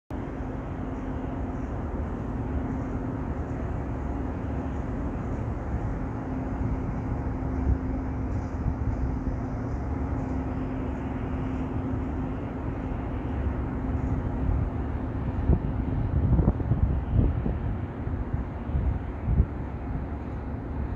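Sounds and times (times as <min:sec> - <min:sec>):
low hum: 0:00.1 - 0:20.9
outdoor background rumble: 0:00.1 - 0:20.9.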